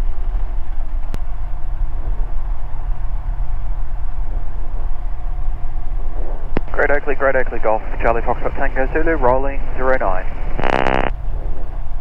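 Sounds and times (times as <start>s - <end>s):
microlight engine running: 0.0s - 12.0s.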